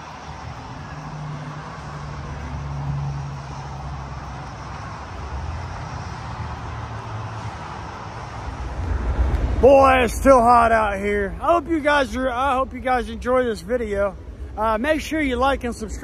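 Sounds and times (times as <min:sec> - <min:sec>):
distant engines droning: 0:00.0 - 0:16.0.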